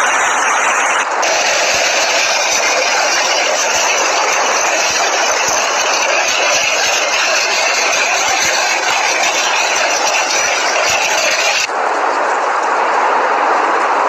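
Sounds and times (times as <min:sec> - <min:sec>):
storm rushing noise: 0:00.0 - 0:14.0.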